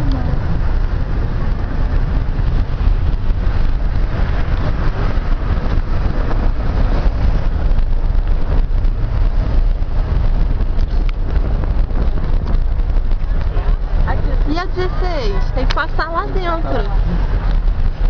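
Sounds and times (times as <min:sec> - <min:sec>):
car rumbling: 0:00.0 - 0:18.0
wind buffeting microphone: 0:00.0 - 0:18.0.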